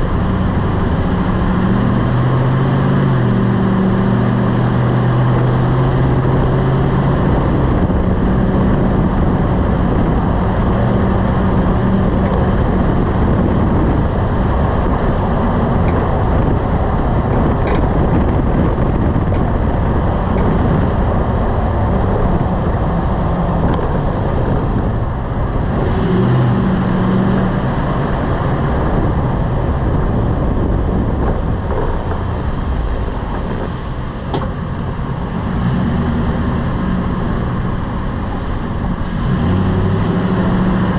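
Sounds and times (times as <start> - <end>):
low engine drone: 0.0 - 40.9
road and tyre noise: 0.0 - 40.9.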